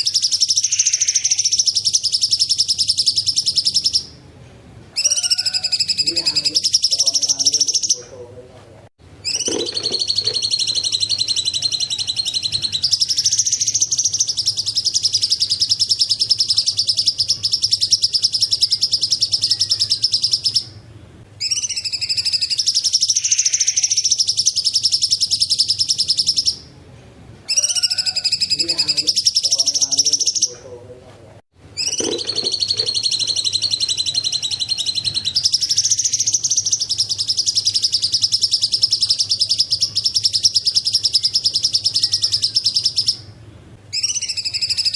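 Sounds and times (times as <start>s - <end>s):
bird singing rapid trills: 0.0s - 4.2s, 5.0s - 8.1s, 9.2s - 20.8s, 21.4s - 26.7s, 27.5s - 30.6s, 31.8s - 44.9s.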